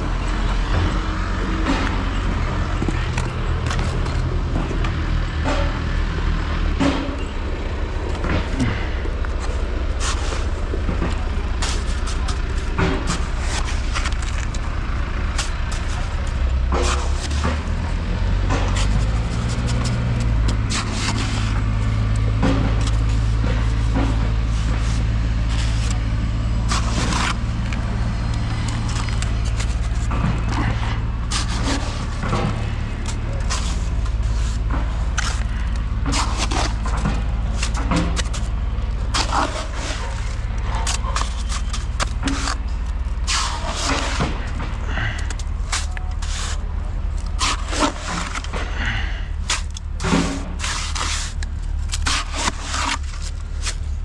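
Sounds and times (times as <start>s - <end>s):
construction knocks and clatter: 0.0s - 54.0s
heavy engine humming: 0.0s - 54.0s.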